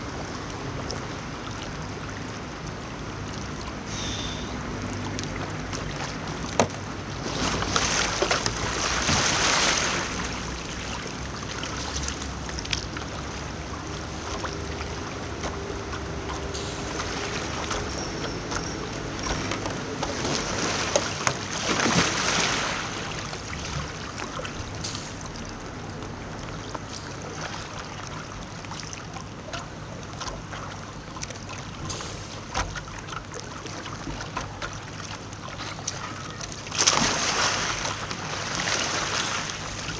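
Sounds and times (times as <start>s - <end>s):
steady water noise: 0.0s - 39.9s
water splashing: 0.0s - 39.9s.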